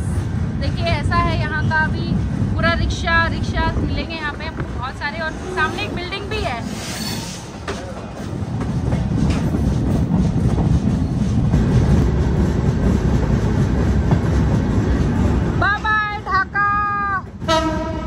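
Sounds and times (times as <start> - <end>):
train wheels rumbling on rails: 0.0 - 18.0
faint train clatter: 0.6 - 16.4.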